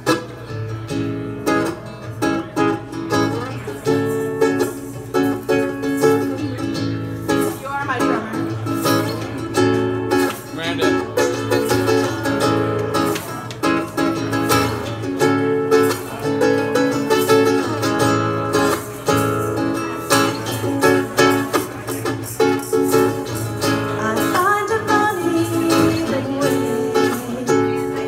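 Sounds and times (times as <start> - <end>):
acoustic guitar playing chords: 0.0 - 28.0.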